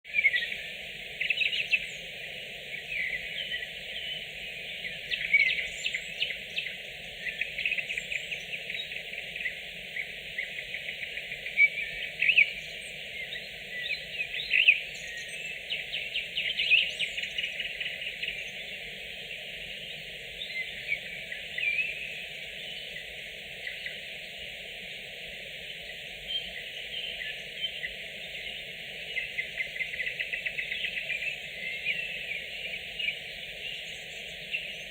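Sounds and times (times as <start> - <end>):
nightingales singing: 0.1 - 34.9.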